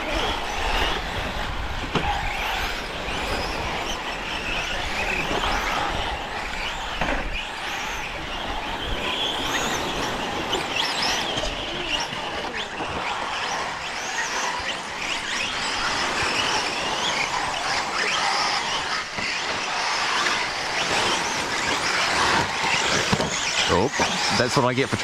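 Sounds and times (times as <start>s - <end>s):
rc truck motors whining: 0.0s - 25.0s
steady rushing noise: 0.0s - 25.0s.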